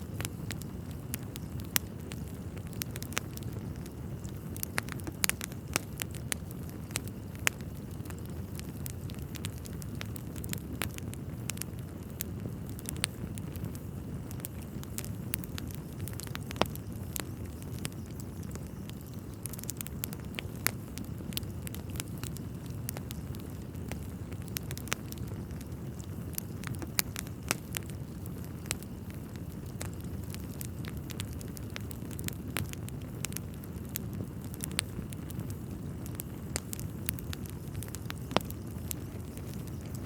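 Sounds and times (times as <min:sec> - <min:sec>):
logs crackling and popping: 0:00.0 - 0:40.0
low fire rumble: 0:00.0 - 0:40.0.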